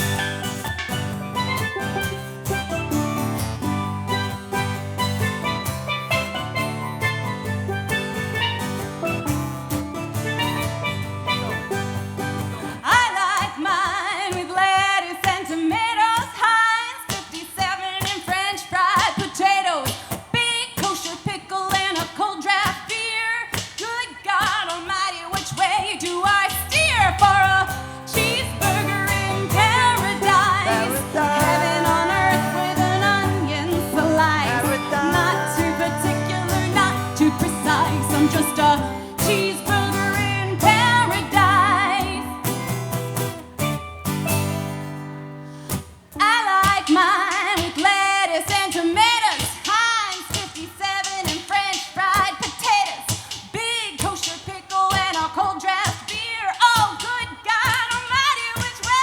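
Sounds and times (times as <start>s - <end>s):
country-pop instrumental song: 0.0s - 59.0s.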